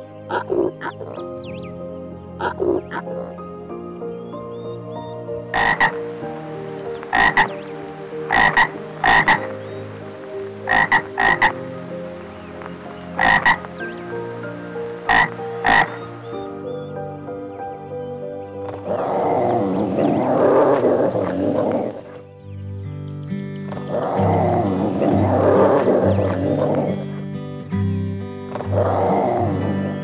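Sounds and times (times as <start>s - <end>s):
background music with held notes: 0.0s - 30.0s.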